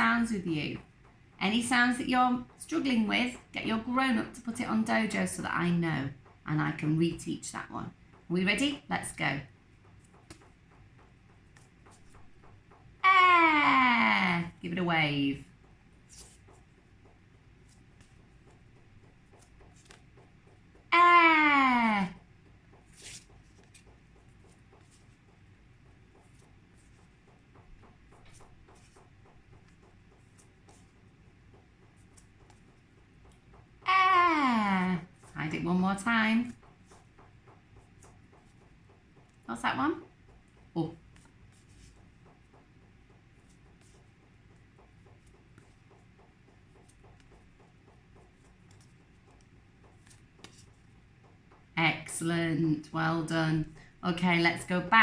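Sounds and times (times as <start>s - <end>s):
rain ticking on a roof: 0.0s - 55.0s.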